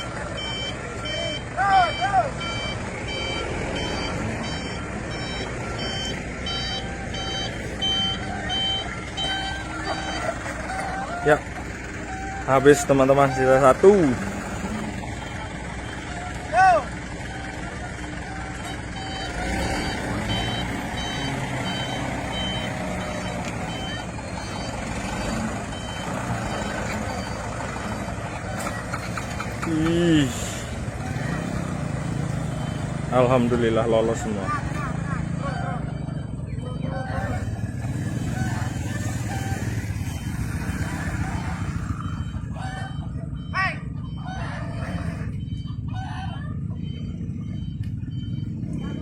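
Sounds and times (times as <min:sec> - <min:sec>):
truck engine running: 0:00.0 - 0:49.0
truck reversing alarm beeping: 0:00.0 - 0:49.0.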